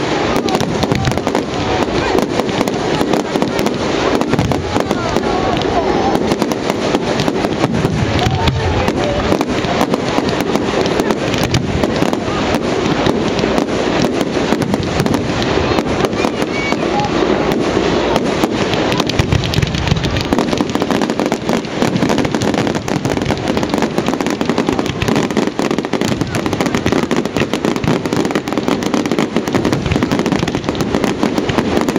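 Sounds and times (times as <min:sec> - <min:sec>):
fireworks crackling bangs: 0:00.0 - 0:31.9.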